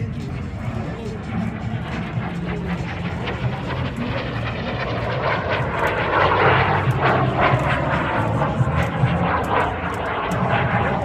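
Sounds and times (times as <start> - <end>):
airplane engines roaring past: 0.0 - 11.0.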